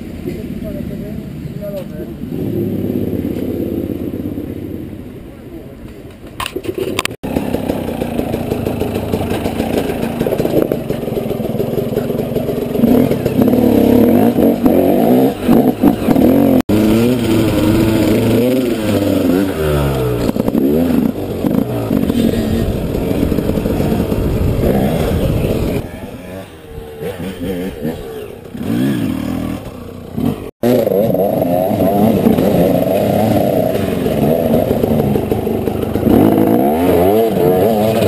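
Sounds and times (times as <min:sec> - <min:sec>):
dirt-bike engines revving: 0:00.0 - 0:05.7, 0:06.5 - 0:38.0.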